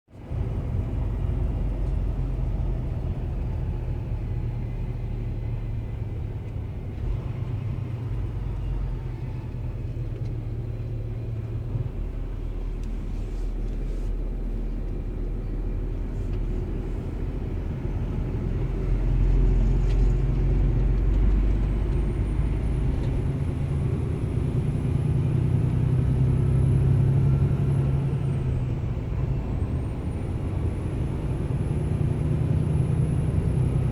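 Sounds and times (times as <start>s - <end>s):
engine low rumble: 0.1s - 33.9s.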